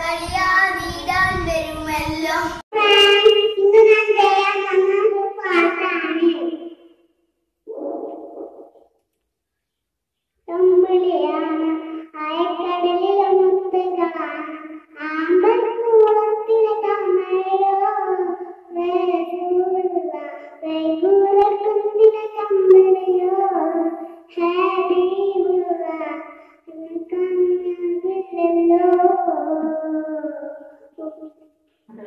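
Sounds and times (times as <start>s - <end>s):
girl singing: 0.0s - 6.8s, 10.5s - 31.4s.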